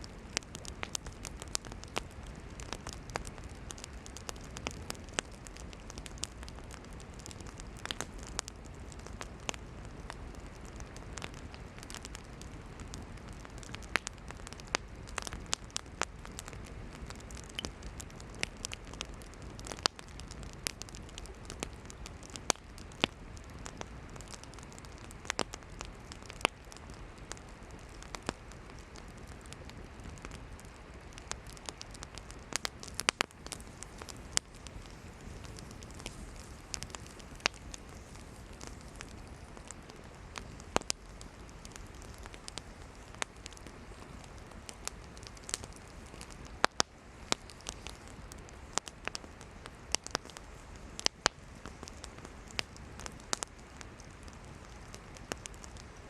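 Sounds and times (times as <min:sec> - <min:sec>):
campfire crackling: 0:00.0 - 0:56.0
low rushing fire noise: 0:00.0 - 0:56.0.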